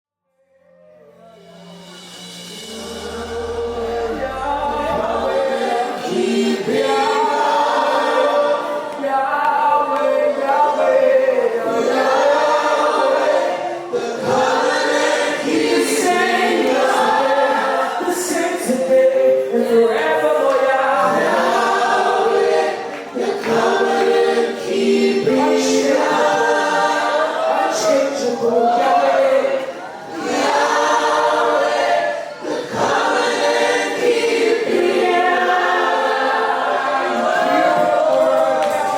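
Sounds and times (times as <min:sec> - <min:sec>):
group singing worship song: 0:01.9 - 0:38.9.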